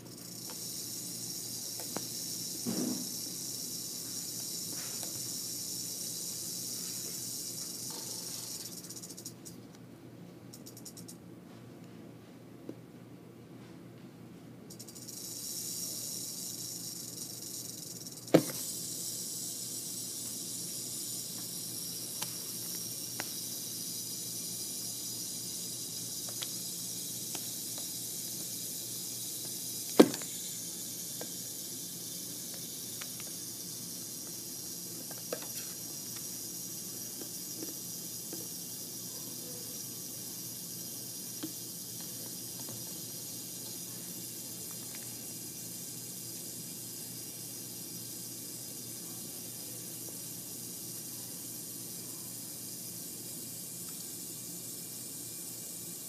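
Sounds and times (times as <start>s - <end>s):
rattlesnake rattling: 0.0s - 9.6s, 10.5s - 11.2s, 14.7s - 56.0s.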